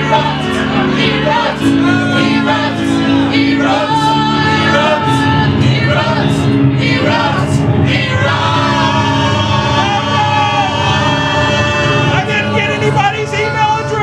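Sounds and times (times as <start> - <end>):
electric keyboard sustained chords: 0.0 - 14.0
voices singing together: 0.0 - 14.0.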